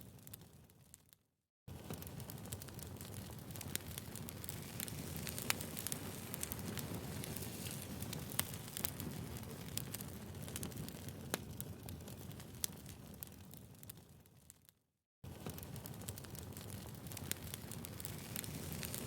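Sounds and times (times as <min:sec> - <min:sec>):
firewood crackling and popping: 0:00.0 - 0:19.0.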